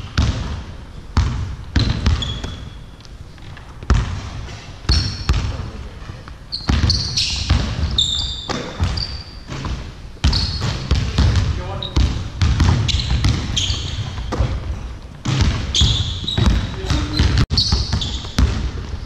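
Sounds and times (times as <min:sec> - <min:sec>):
basketballs bouncing on wood: 0:00.0 - 0:02.8, 0:03.4 - 0:19.0
sneaker squeaks: 0:01.8 - 0:19.0.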